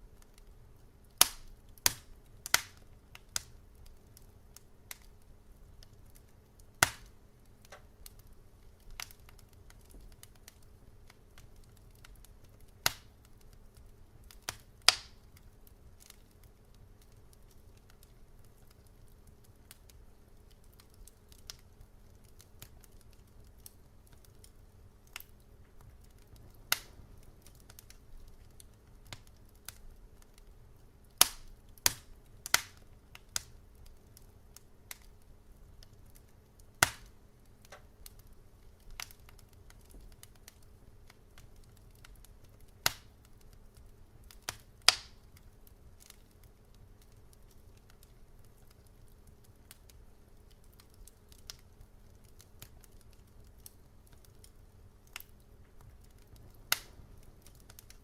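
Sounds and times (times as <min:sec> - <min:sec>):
faint low rumble: 0:00.0 - 0:58.0
wood fire crackling: 0:00.0 - 0:58.0.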